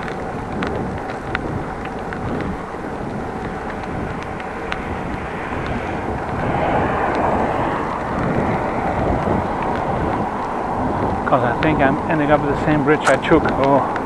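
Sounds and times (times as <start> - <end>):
bicycle tyre noise: 0.0 - 14.0
wind rushing over microphone: 0.0 - 14.0.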